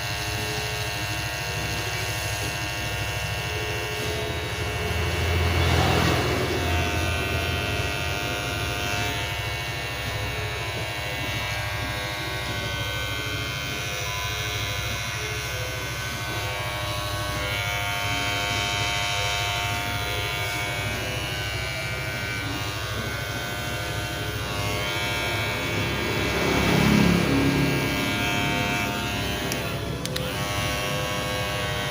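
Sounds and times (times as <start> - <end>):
electric hair clipper buzzing: 0.0 - 31.9.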